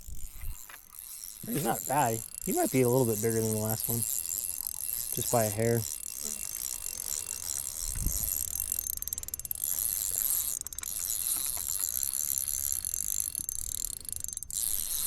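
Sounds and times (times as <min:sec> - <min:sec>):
fishing reel ticking whir: 0:00.0 - 0:15.0.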